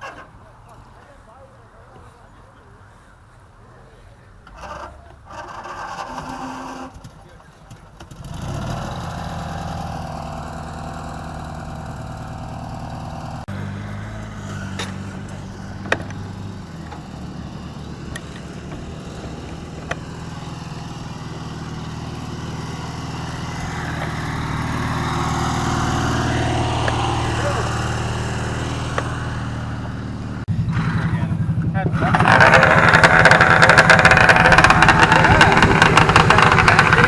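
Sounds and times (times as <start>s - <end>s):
garden tractor engine idling: 4.7s - 37.0s.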